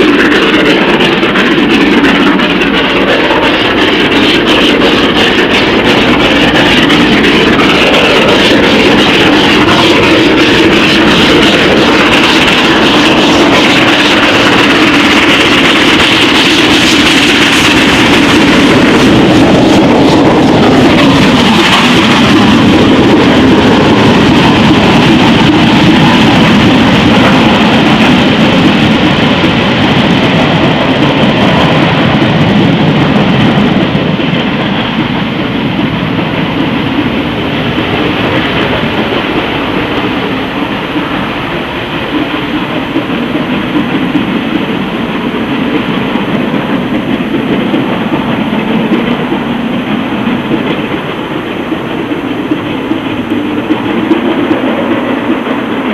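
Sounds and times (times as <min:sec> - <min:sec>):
steam locomotive exhaust: 0:00.0 - 0:55.9
train rolling by: 0:00.0 - 0:55.9.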